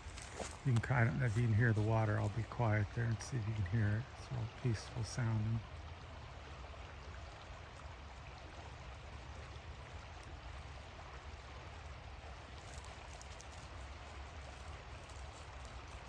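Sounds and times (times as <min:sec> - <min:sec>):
faint rush of river water: 0:00.0 - 0:16.0.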